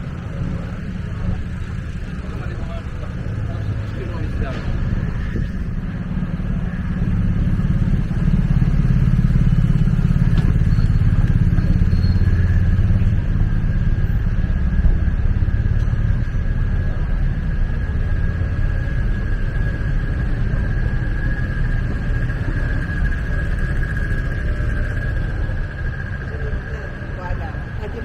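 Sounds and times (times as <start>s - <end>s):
motor scooter engine running: 0.0s - 28.0s.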